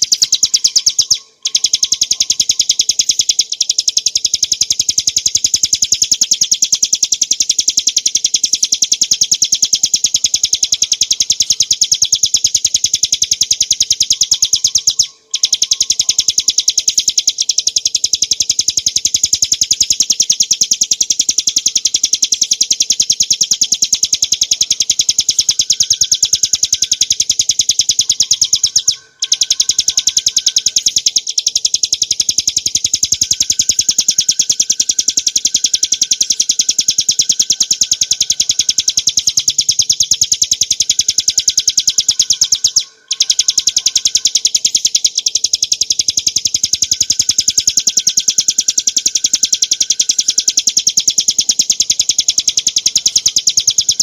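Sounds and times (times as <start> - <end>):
bird singing chattering trill: 0.0 - 54.0.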